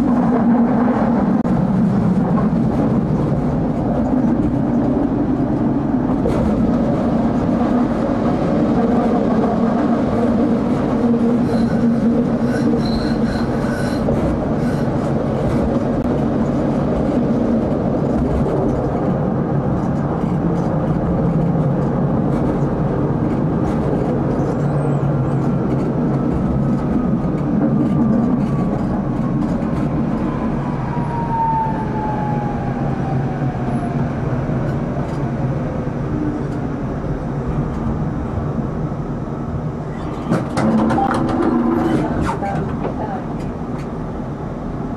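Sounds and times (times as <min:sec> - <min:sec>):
tram wheels rumbling on track: 0:00.0 - 0:44.9.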